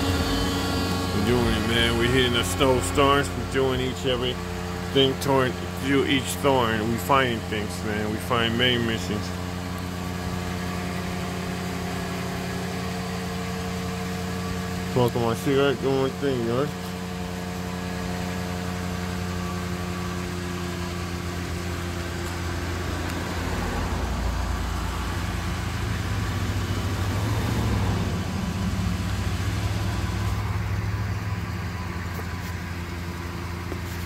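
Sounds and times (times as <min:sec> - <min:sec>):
pickup truck engine idling: 0:00.0 - 0:34.0.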